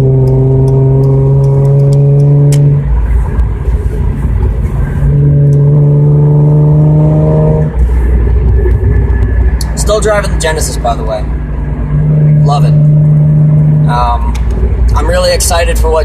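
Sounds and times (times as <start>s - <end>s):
car engine accelerating hard: 0.0s - 15.1s.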